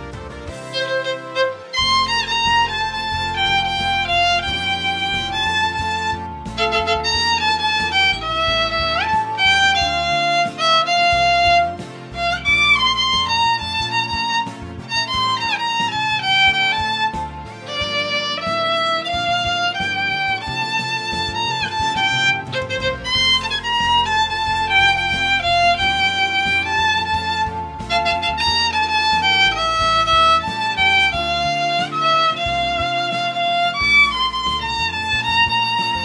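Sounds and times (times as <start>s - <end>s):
solo violin melody: 0.0s - 36.0s.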